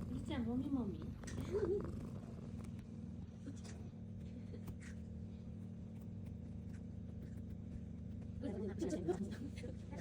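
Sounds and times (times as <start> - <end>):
cat purring: 0.0 - 8.4.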